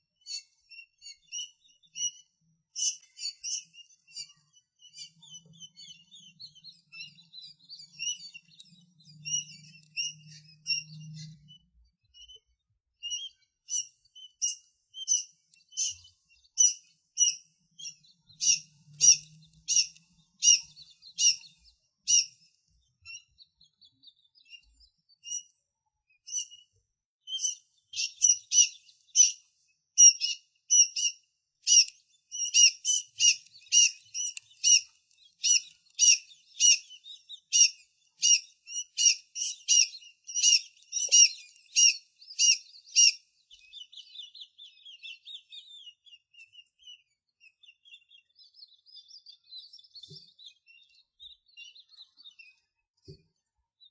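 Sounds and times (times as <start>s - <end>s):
tiny birds chirping: 0.0s - 53.9s.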